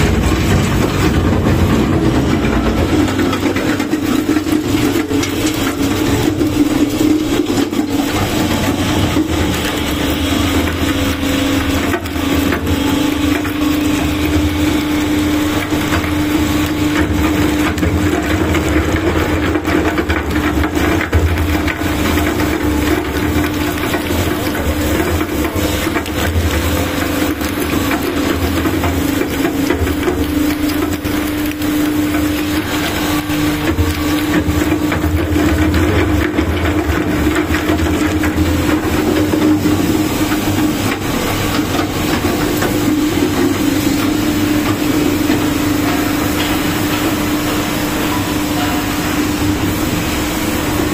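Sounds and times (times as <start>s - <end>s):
crackle of metal being cut: 0.0s - 50.9s
shredder humming: 0.0s - 50.9s.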